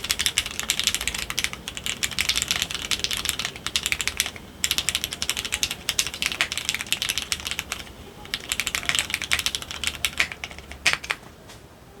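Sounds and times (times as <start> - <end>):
typing on mechanical keyboard: 0.0 - 11.3.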